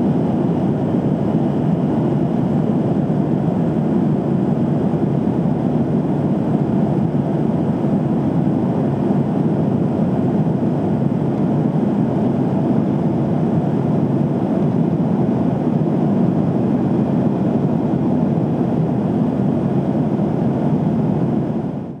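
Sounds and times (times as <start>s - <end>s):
jet airliner cabin noise: 0.0s - 22.0s.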